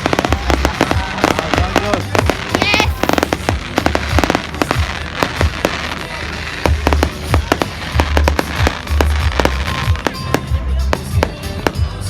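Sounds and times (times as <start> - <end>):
fireworks cracking and popping: 0.0 - 12.0
low booming: 0.0 - 12.0.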